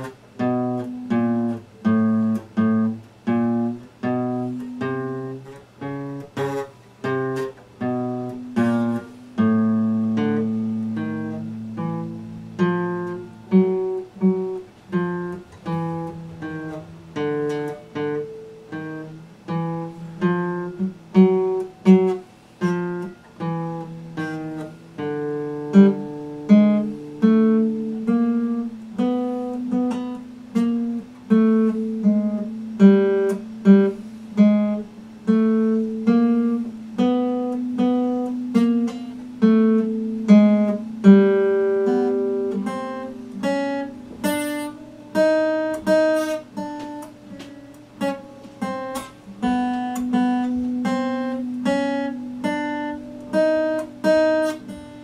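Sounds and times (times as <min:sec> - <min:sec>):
acoustic guitar picked slowly: 0:00.0 - 0:55.0.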